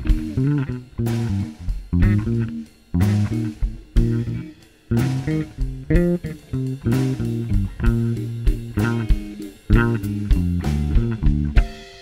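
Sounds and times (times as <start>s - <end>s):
electric bass guitar line: 0.0s - 11.8s.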